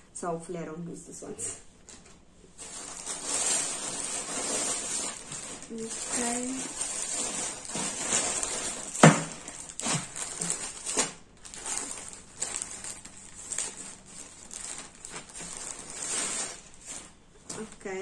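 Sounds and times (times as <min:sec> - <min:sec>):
plastic bag rustling: 0:01.8 - 0:18.0.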